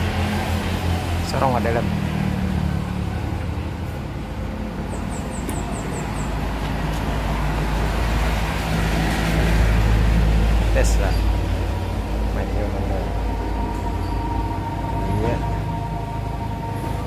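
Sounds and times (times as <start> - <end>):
low vehicle rumble: 0.0 - 17.0.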